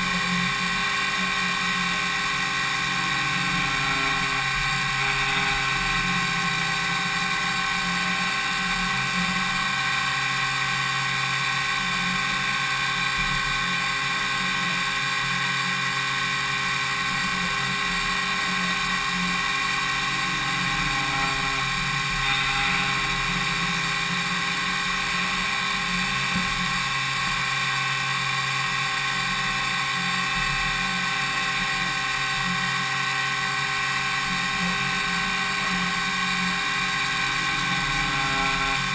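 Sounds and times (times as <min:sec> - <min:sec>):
metal cutting noise: 0:00.0 - 0:38.9
milling machine high whine: 0:00.0 - 0:38.9.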